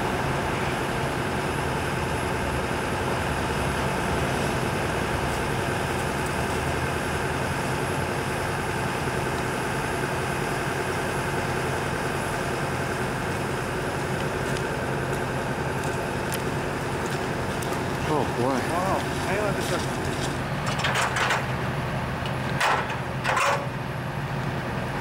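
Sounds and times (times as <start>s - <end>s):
heavy vehicle engine idling: 0.0s - 25.0s.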